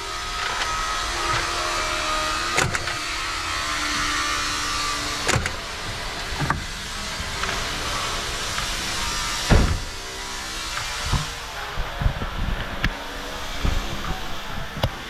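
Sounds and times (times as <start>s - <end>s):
car mechanical whirring: 0.0s - 15.0s.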